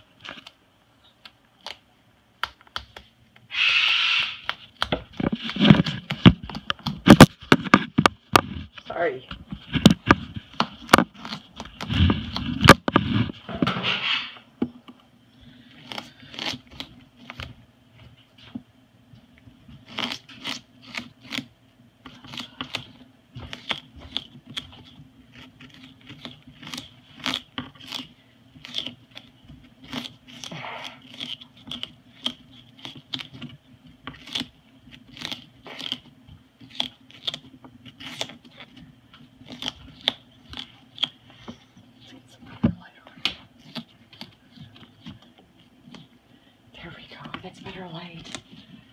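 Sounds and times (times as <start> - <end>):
cockatoo shredding sugarcane: 3.5 - 14.4, 15.4 - 18.5, 19.6 - 48.9.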